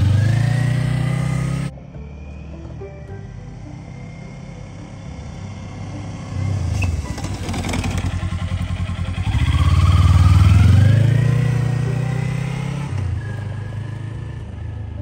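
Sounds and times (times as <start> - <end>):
motorcycle engine passing: 0.0 - 2.8, 3.6 - 15.0.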